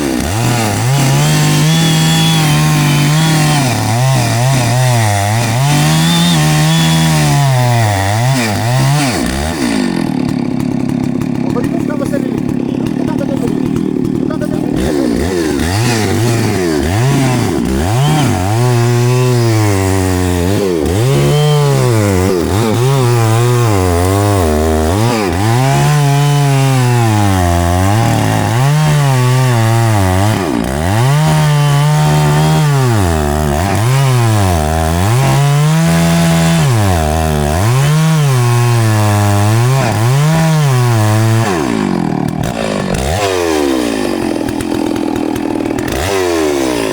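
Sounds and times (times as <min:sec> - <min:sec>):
chainsaw cutting into tree: 0:00.0 - 0:46.9.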